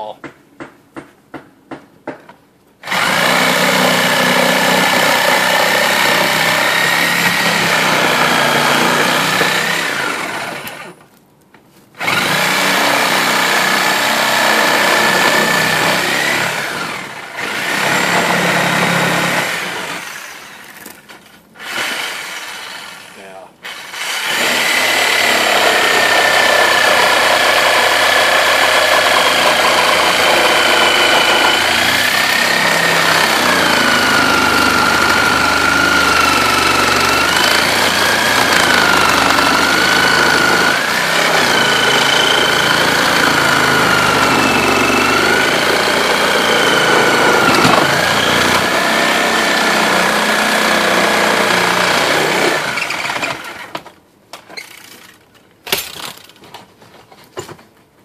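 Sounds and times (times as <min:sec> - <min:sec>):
reciprocating saw cutting wood: 0:02.8 - 0:11.0, 0:12.0 - 0:20.8, 0:21.6 - 0:53.7.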